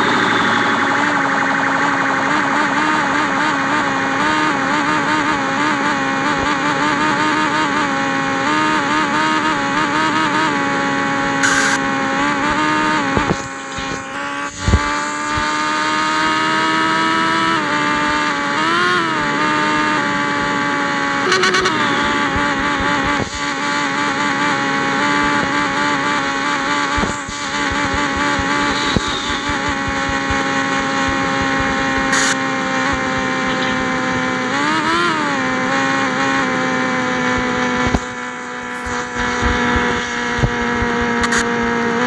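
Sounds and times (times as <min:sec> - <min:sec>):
motorcycle engine at high revs: 0:00.0 - 0:42.0.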